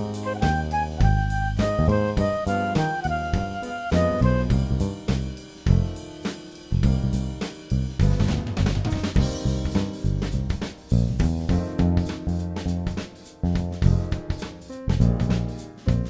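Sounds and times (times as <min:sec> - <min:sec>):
bass and chords: 0:00.0 - 0:16.0
drum kit playing a steady beat: 0:00.0 - 0:16.0.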